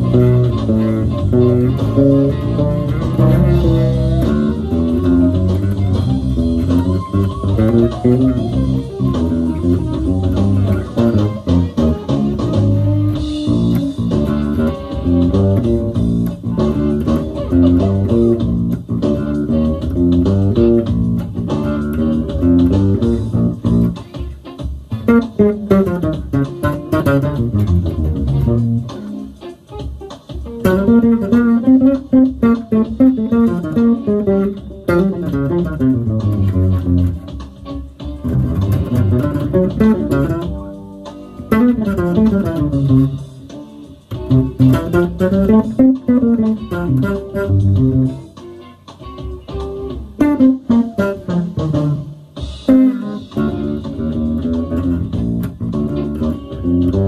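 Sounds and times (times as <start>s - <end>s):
electric bass played fingerstyle: 0.0s - 57.0s.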